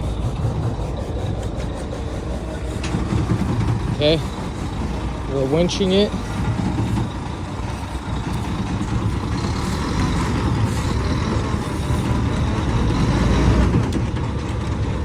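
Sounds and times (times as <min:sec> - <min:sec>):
truck engines running: 0:00.0 - 0:15.0.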